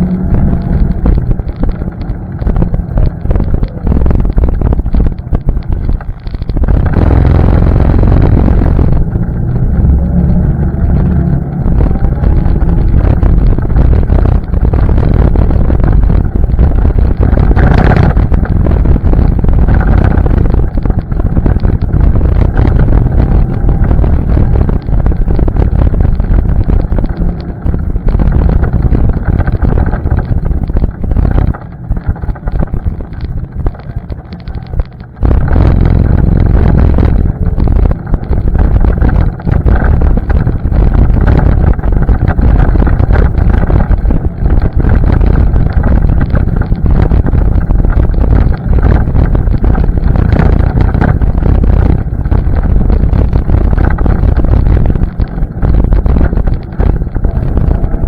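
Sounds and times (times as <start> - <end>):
atv engine running: 0.0 - 58.0
wind buffeting microphone: 0.0 - 58.0.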